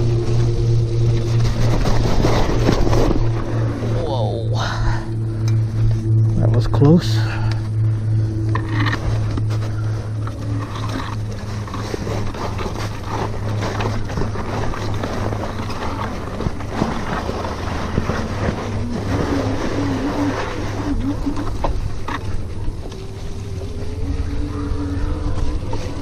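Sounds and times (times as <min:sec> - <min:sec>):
steady low hum: 0:00.0 - 0:26.0
tyre rumble: 0:00.0 - 0:26.0
wavering tone: 0:00.0 - 0:26.0.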